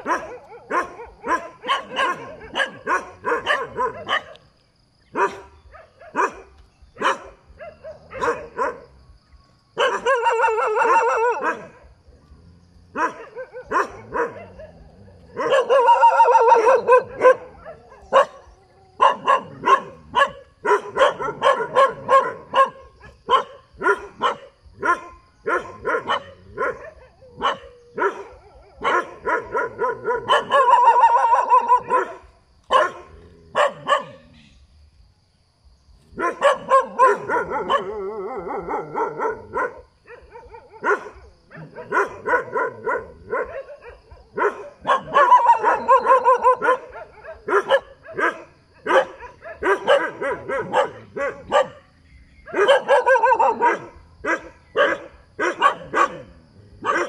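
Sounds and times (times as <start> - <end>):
dog barking: 0.0 - 4.4, 5.1 - 9.0, 9.8 - 12.0, 12.9 - 34.4, 36.2 - 57.0.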